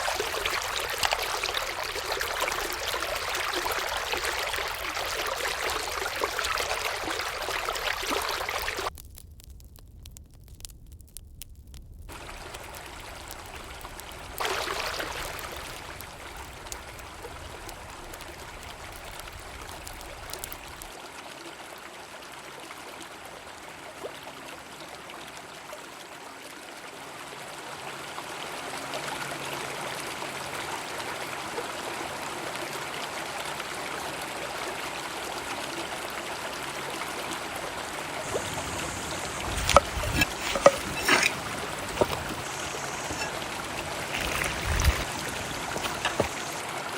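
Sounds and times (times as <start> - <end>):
river water rushing: 0.0 - 8.9, 12.1 - 22.2, 27.1 - 46.9.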